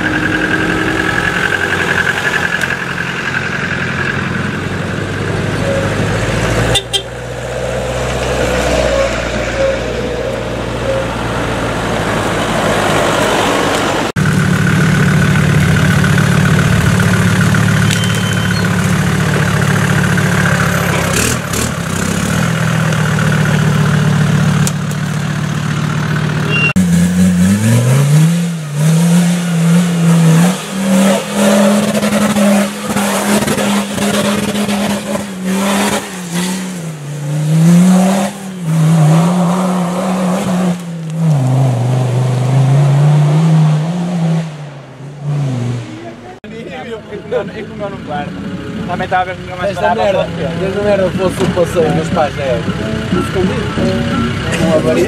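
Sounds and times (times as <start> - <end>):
engine revving: 0.0 - 46.4
vehicle engines droning: 0.0 - 55.0.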